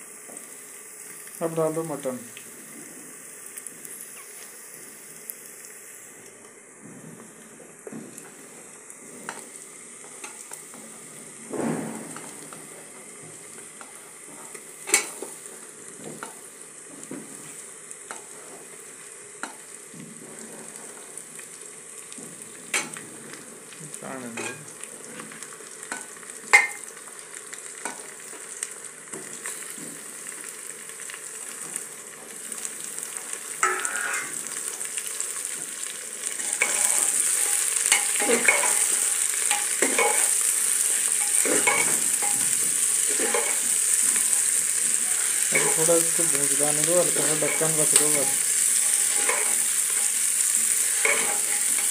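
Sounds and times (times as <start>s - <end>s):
meat sizzling in hot oil: 0.0s - 51.9s.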